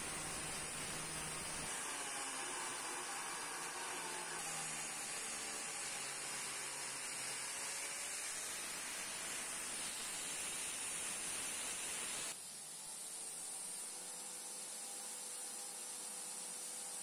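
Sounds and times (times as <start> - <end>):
steady hiss: 0.0 - 3.2, 4.7 - 17.0.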